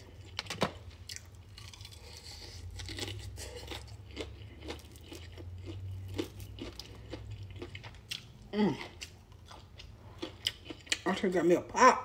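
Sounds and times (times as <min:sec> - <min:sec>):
chewing crisp fried chicken: 0:00.0 - 0:11.5.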